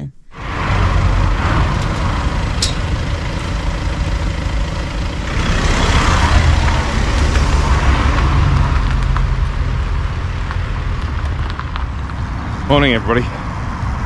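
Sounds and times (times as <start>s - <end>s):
car engine running: 0.3s - 14.0s.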